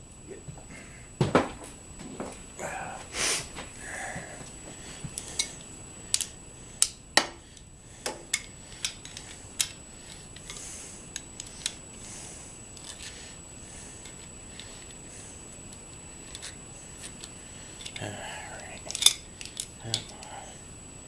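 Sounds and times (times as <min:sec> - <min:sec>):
faint high-pitched whine: 0:00.0 - 0:21.0.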